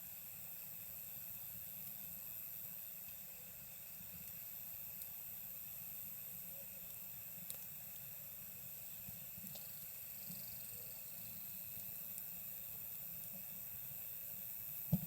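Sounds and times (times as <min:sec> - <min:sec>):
campfire hissing: 0:00.0 - 0:15.0.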